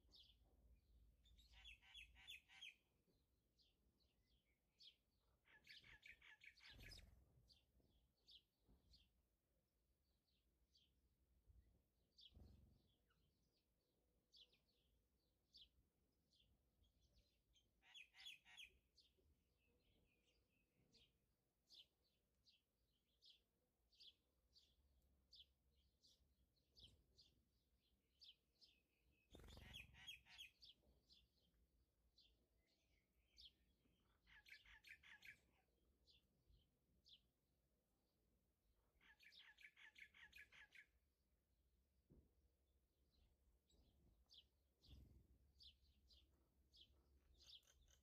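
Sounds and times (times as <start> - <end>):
faint bird chirping: 0.0 - 9.3, 10.1 - 41.5, 42.9 - 48.0.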